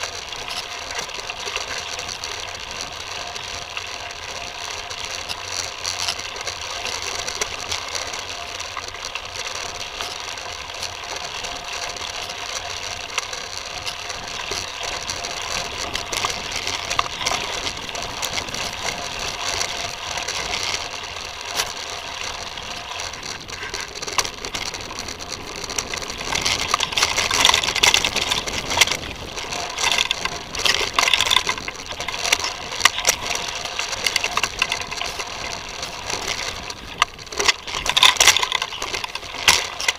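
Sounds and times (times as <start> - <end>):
bike rattling: 0.0 - 39.9
bike rolling over dirt trail: 0.0 - 39.9
freewheel ticking rapidly: 0.0 - 39.9.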